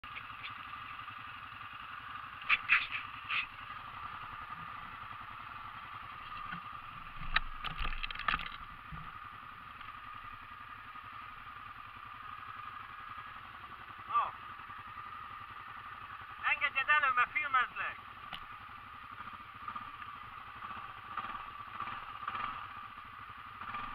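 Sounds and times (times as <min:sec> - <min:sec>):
atv engine running: 0:00.0 - 0:23.9.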